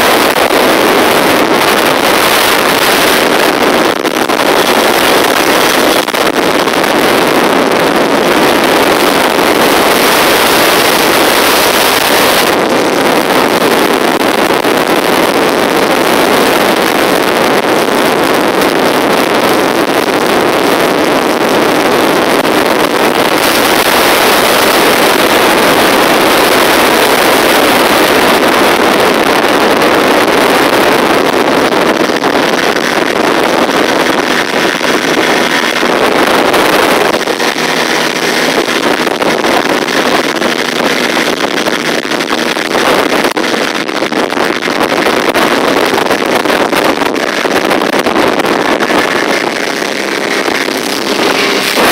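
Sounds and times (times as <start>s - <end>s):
boat motor rushing: 0.0s - 51.9s
water on boat hull: 0.0s - 51.9s
wind on microphone: 0.0s - 51.9s.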